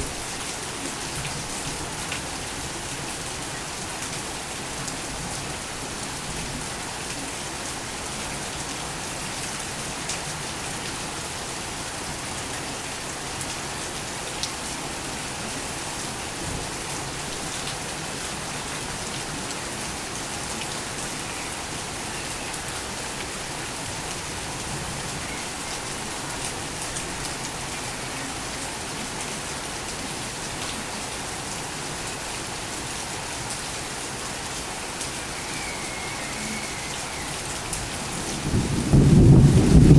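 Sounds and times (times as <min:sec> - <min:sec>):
torrential rain hiss: 0:00.0 - 0:39.9.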